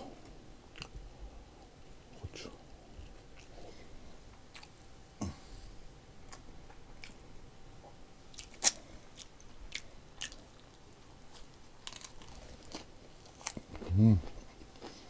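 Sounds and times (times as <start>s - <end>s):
person chewing with crunches: 0.0s - 15.0s.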